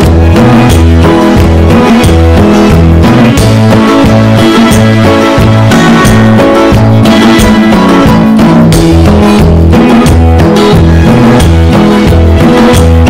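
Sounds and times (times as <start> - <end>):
bass line: 0.0 - 13.0
drum beat: 0.0 - 13.0
pitched instruments: 0.0 - 13.0.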